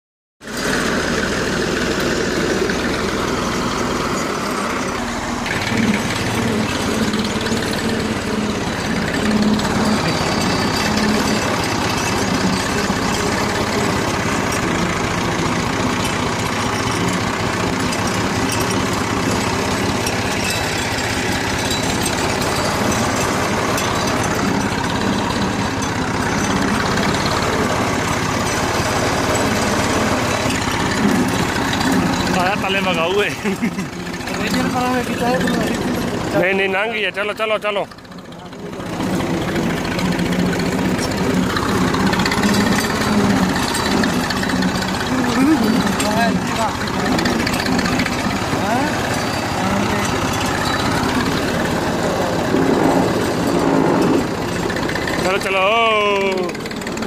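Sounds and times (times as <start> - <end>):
tractor engine droning: 0.4 - 57.0.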